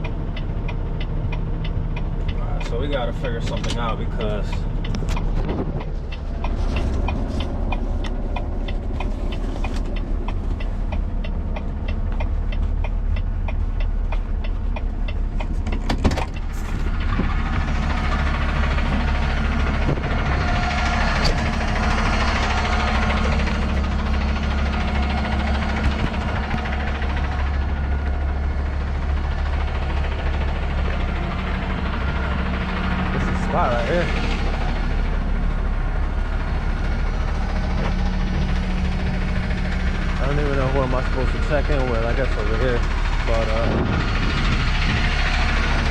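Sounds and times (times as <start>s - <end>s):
diesel engine running: 0.0s - 45.9s
even ticking: 0.0s - 45.9s.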